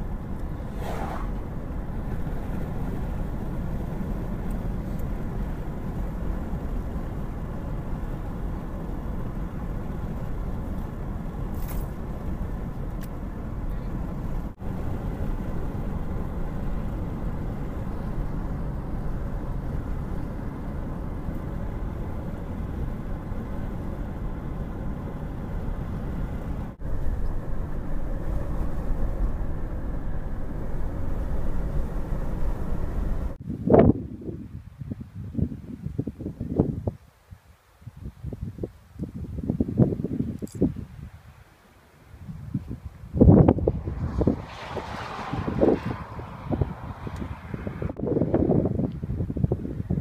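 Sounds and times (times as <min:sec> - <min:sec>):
car cabin road and engine noise: 0:00.0 - 0:33.9, 0:42.5 - 0:50.0.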